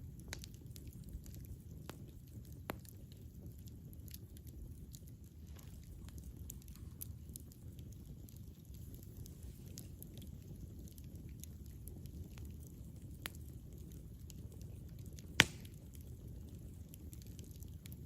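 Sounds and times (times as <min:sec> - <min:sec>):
campfire flame rumble: 0:00.0 - 0:18.0
fire crackling and popping: 0:00.0 - 0:18.0.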